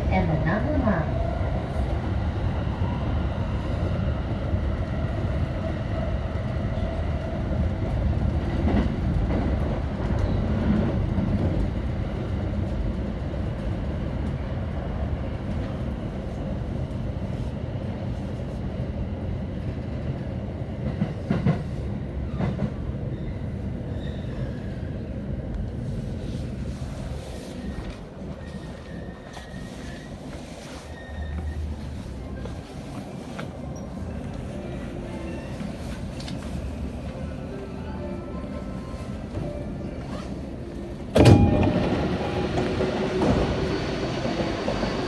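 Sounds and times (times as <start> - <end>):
train wheels rumbling on rails: 0.0 - 37.6, 38.5 - 45.0.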